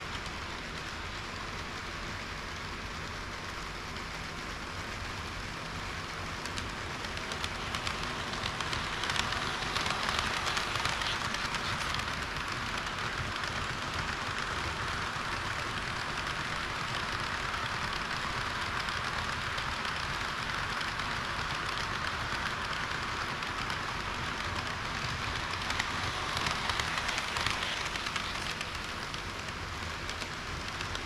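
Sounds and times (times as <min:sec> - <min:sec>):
model train rolling rattle: 0:00.0 - 0:31.0.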